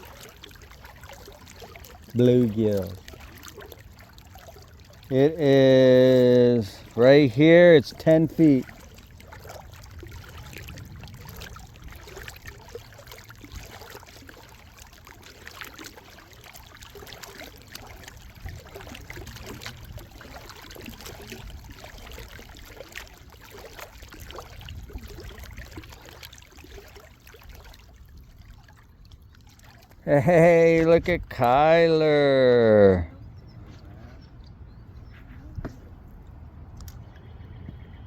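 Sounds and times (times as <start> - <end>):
small water splashes: 0.0 - 38.0
water lapping and trickling: 0.0 - 38.0.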